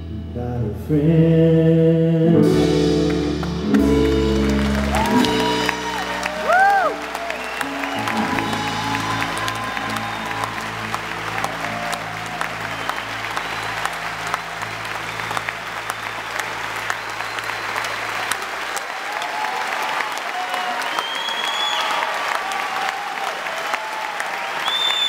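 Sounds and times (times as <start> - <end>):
audience applauding and cheering: 3.1 - 25.0.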